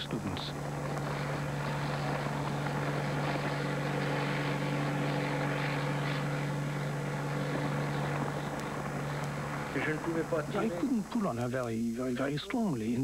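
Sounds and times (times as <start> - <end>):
light plane engine drone: 0.0 - 13.0.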